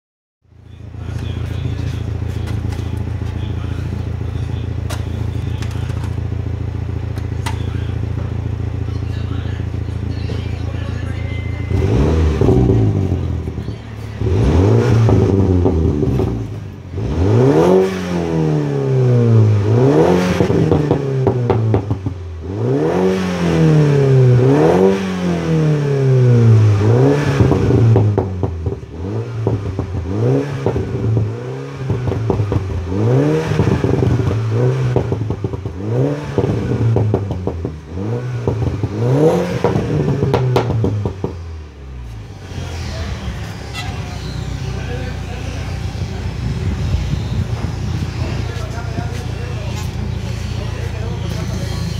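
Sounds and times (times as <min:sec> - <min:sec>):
car engine revving: 0:00.8 - 0:51.9.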